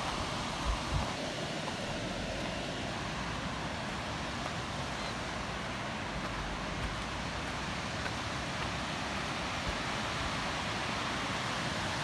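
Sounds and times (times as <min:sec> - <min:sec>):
water rushing over rocks: 0:00.0 - 0:12.0
wind rumble on microphone: 0:00.0 - 0:12.0.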